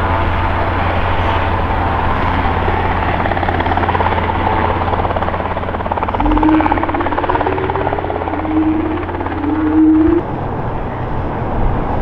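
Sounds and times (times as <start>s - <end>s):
piston engine buzz: 0.0s - 10.6s
helicopter rotor beat: 0.0s - 10.7s
steady low tone: 0.0s - 11.3s.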